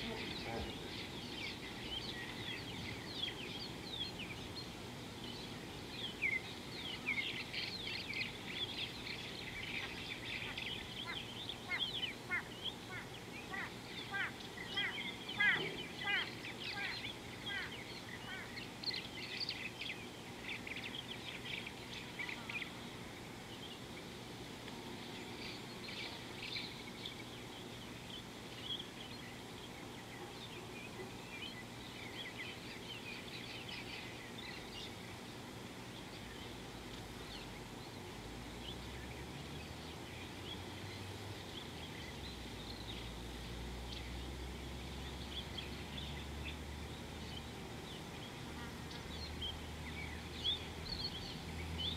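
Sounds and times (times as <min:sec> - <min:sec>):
birds chirping and twittering: 0:00.0 - 0:51.9
low steady buzz: 0:00.0 - 0:51.9.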